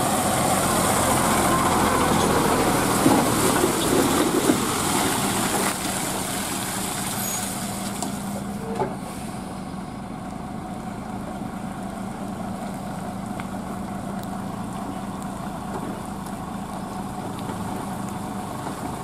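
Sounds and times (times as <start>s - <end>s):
diesel lorry engine humming: 0.0s - 19.0s.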